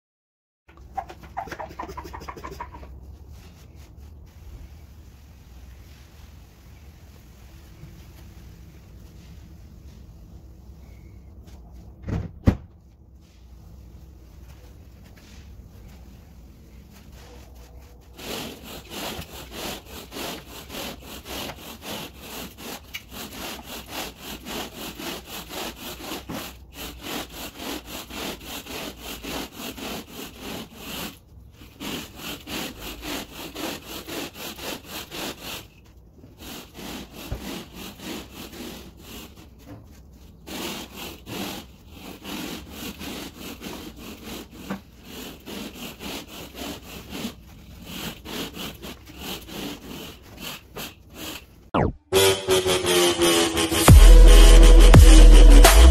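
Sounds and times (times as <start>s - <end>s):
scrubbing carpet: 1.0s - 11.9s, 12.8s - 51.5s.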